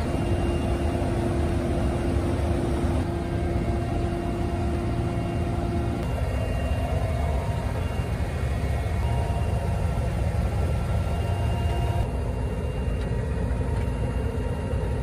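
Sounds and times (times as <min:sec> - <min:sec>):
helicopter engine rumble: 0:00.0 - 0:15.0
turbine whine: 0:00.0 - 0:15.0.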